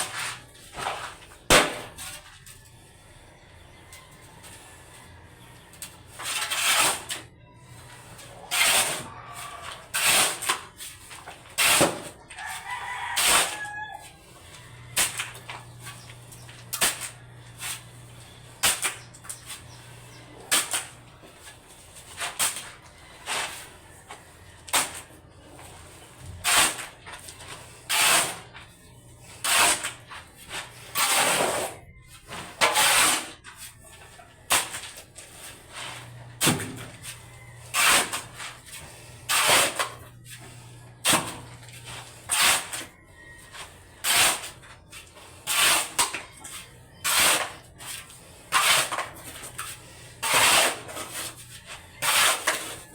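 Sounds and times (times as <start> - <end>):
hand tool scraping building material: 0.0 - 2.7, 5.8 - 52.9.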